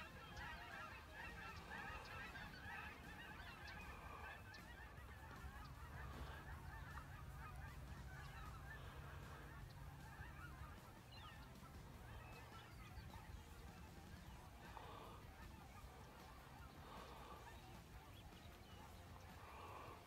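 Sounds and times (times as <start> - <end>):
geese honking: 0.0 - 20.0.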